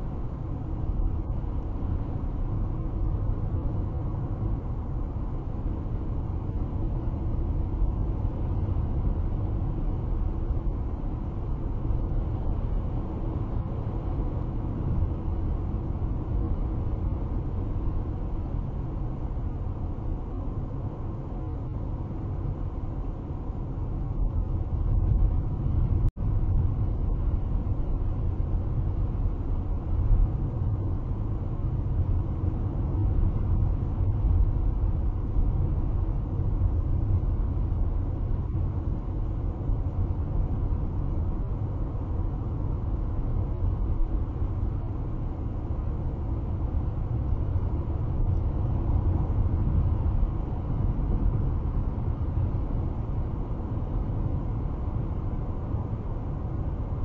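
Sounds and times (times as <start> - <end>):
tyre and wind noise in car: 0.0 - 57.0.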